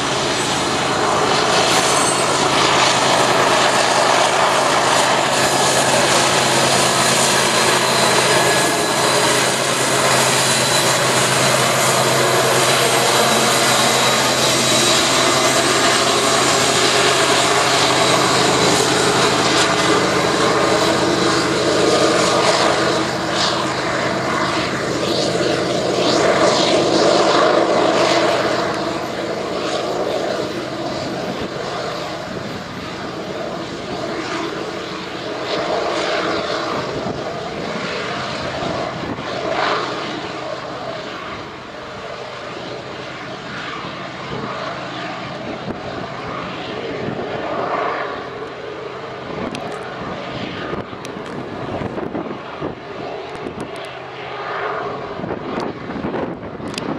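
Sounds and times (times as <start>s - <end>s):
diesel engine drone: 0.0s - 56.9s.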